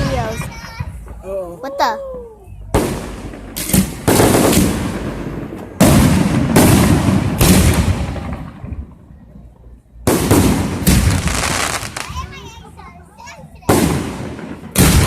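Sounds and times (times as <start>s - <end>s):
fireworks bangs: 0.0s - 1.2s, 2.6s - 12.7s, 13.5s - 15.0s.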